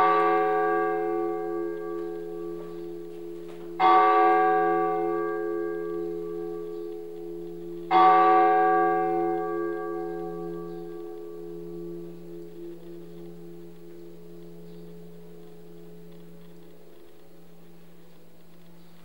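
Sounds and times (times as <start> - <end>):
deep bell tolling: 0.0 - 16.4.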